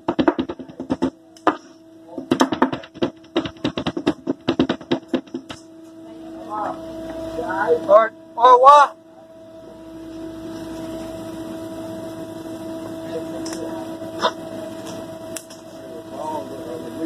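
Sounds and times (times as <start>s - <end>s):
electrical hum of kitchen equipment: 0.0s - 17.0s.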